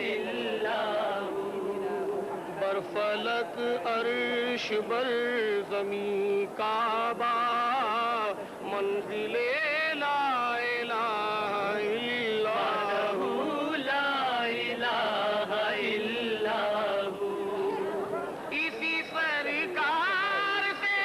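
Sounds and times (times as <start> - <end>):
person chanting with vibrato: 0.0 - 9.6, 10.2 - 21.0.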